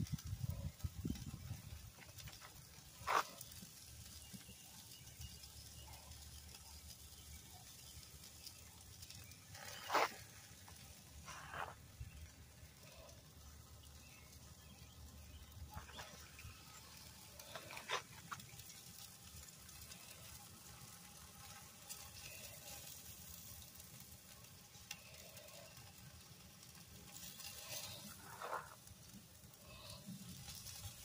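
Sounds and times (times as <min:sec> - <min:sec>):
steaks sizzling on a grill: 0:00.0 - 0:31.0.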